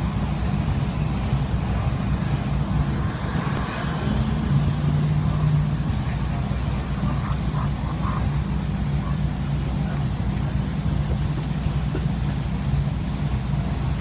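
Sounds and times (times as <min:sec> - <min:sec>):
tractor engines rumbling: 0:00.0 - 0:14.0.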